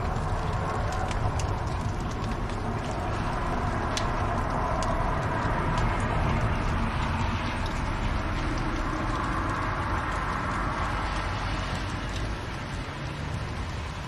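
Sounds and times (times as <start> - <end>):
faint fire crackles: 0.0 - 14.0
fire rumbling in a fireplace: 0.0 - 14.0.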